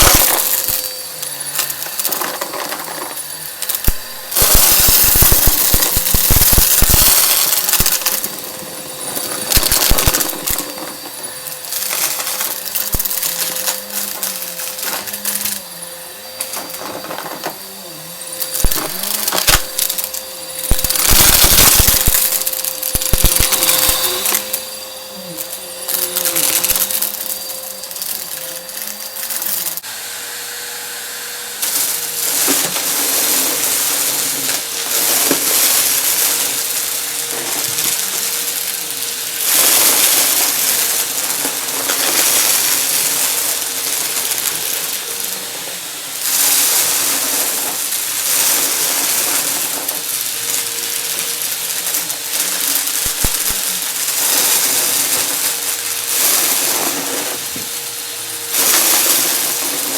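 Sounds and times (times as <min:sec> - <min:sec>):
confetti rattling through nozzle: 0:00.0 - 0:29.9, 0:31.6 - 0:59.9
vacuum cleaner motor hum: 0:00.0 - 0:59.9.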